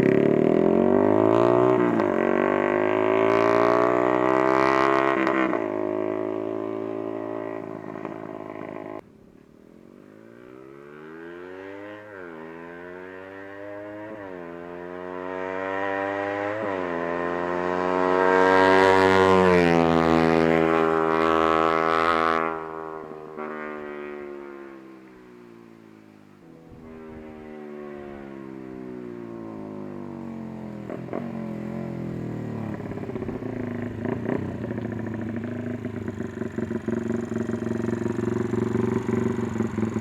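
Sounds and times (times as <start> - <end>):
motorcycle engine revving: 0.0 - 9.0, 10.0 - 40.0.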